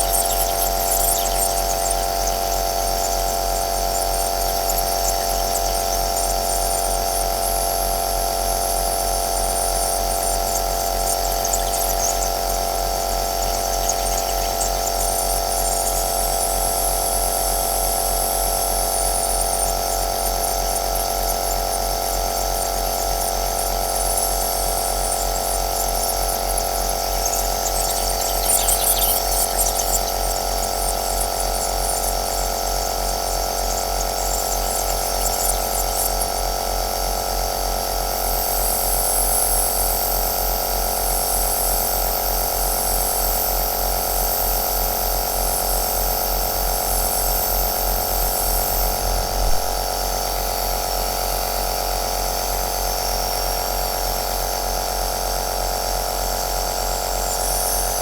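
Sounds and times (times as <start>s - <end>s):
nebulizer motor hum and whine: 0.0s - 58.0s.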